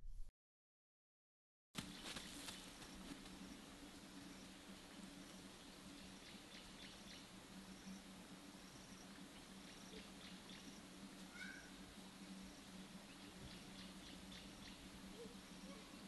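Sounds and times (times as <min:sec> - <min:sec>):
steady low hum: 0:01.8 - 0:16.0.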